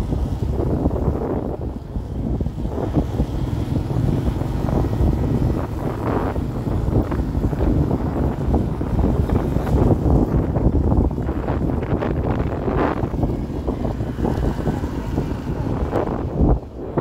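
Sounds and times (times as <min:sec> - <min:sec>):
motorbike engine rumbling: 0:00.0 - 0:17.0
wind buffeting microphone: 0:00.0 - 0:17.0.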